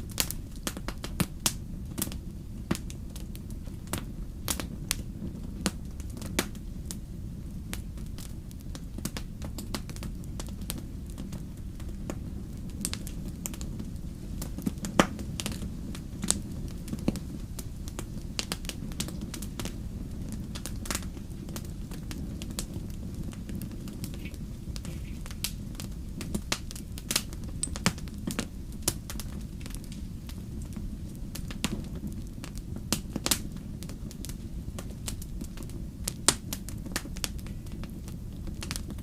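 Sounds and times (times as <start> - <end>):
campfire crackling and popping: 0.0 - 39.0
steady low rumble: 0.0 - 39.0.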